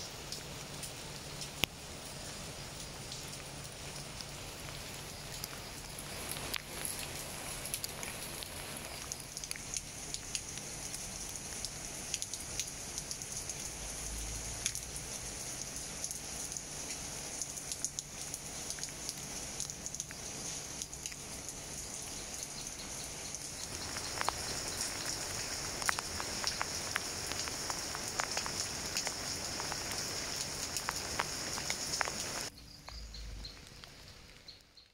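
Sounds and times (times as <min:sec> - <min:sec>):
rain falling on leaves: 0:00.0 - 0:34.9.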